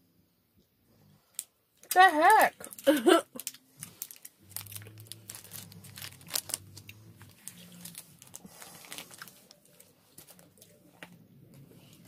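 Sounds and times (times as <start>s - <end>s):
plastic wrapper crinkling: 1.4s - 11.1s.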